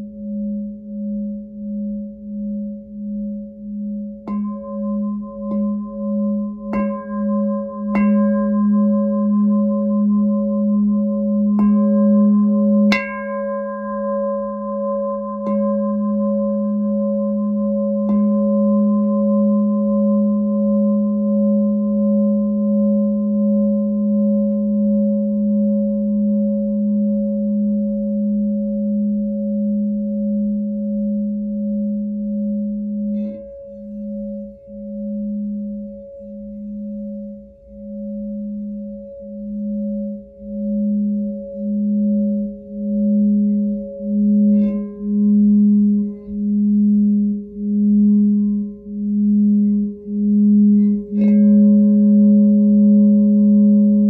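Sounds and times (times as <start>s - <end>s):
singing bowl ringing: 0.0s - 54.0s.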